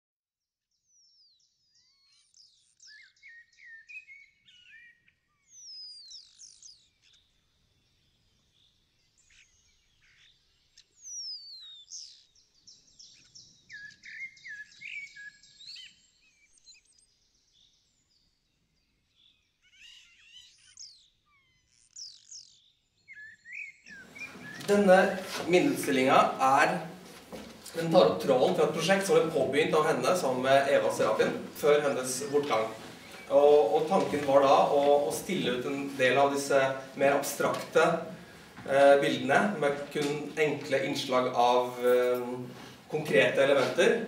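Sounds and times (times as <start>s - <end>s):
birds singing faintly: 0.7s - 44.0s.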